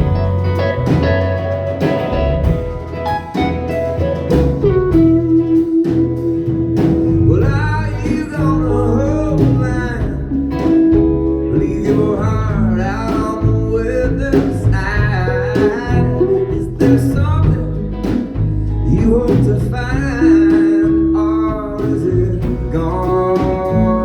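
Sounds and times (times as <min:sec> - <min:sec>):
lead guitar bending notes: 0:00.0 - 0:21.8
live country-blues band: 0:00.0 - 0:24.0.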